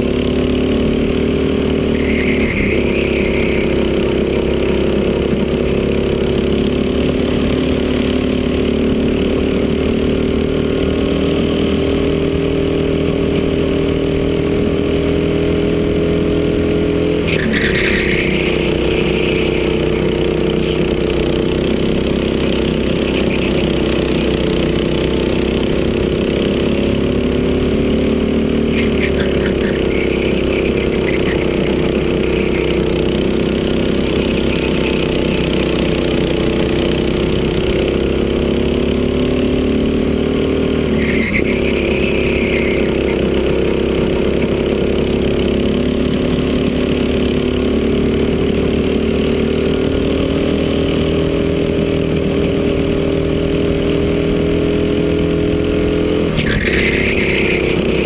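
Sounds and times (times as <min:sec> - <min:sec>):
go-kart engine running flat out: 0:00.0 - 0:58.0.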